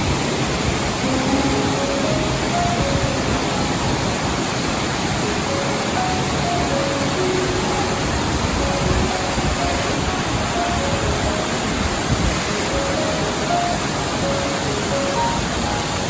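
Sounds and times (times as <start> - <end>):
soft melody of single notes: 0.0 - 16.0
waterfall rushing: 0.0 - 16.0.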